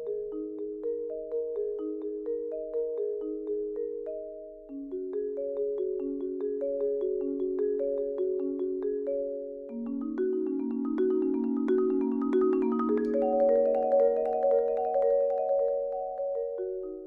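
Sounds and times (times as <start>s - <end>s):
marimba played with mallets: 0.0s - 17.0s.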